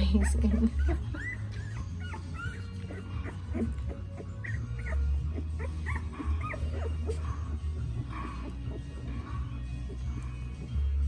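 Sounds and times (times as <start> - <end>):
puppies squeaking and whimpering: 0.0 - 11.0.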